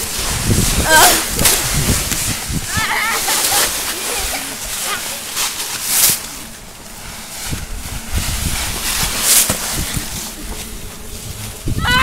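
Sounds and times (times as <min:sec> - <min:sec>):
wind rumbling on microphone: 0:00.0 - 0:04.8, 0:06.1 - 0:12.0
dry leaves rustling and crunching: 0:00.0 - 0:12.0.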